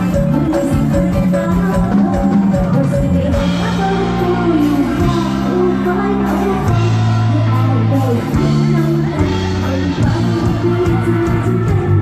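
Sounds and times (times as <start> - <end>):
held bass line: 0.0 - 12.0
live band music: 0.0 - 12.0
person singing: 0.0 - 12.0.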